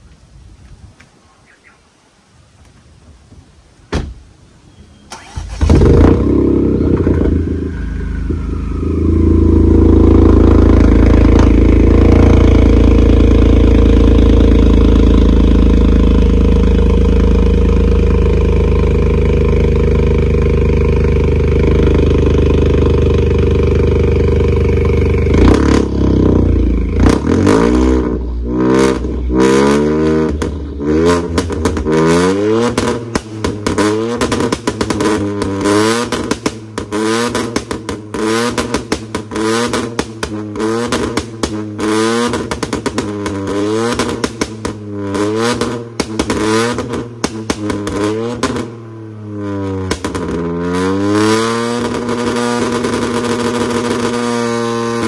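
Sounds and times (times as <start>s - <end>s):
car engine starting and revving: 5.1s - 55.0s.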